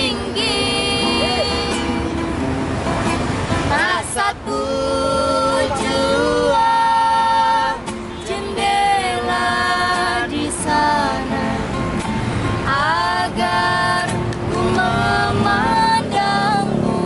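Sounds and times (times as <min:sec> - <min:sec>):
woman and man singing: 0:00.0 - 0:02.0, 0:03.7 - 0:11.8, 0:12.6 - 0:17.0
strummed acoustic guitar: 0:00.0 - 0:17.0.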